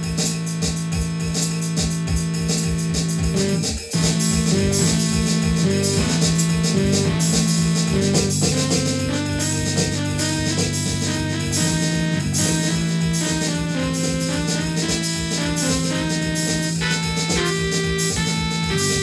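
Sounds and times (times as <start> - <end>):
electronic drum kit beat: 0.0 - 19.0
rock backing track guitar: 1.9 - 19.0.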